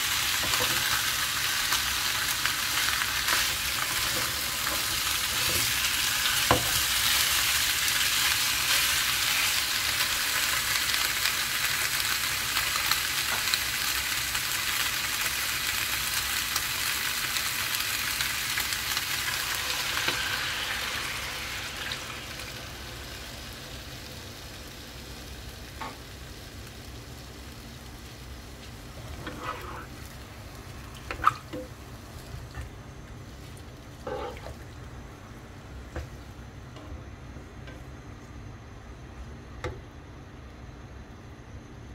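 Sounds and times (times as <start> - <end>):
chicken sizzling in frying pan: 0.0 - 36.4.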